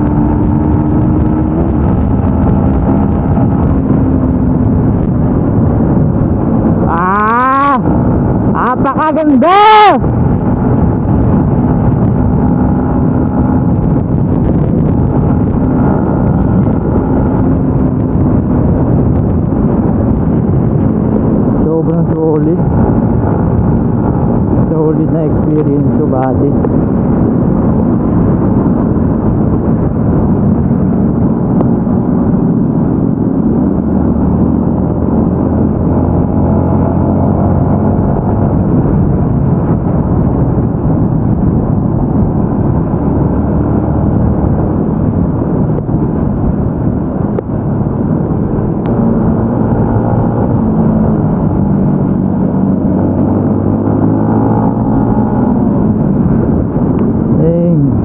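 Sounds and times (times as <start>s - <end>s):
motorcycle engine running: 0.0s - 9.2s, 10.0s - 58.0s.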